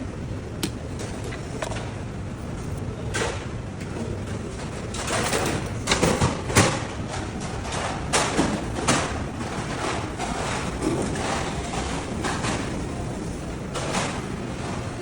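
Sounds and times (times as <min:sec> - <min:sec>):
restaurant background noise: 0:00.0 - 0:15.0.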